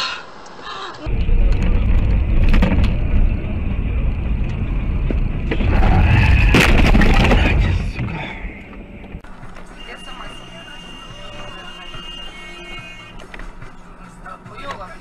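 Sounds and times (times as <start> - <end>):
car engine and road rumble: 0.3 - 15.0.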